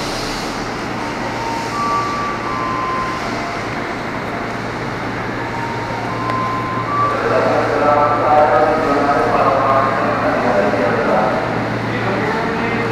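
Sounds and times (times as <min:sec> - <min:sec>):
electric train humming: 0:00.0 - 0:12.9.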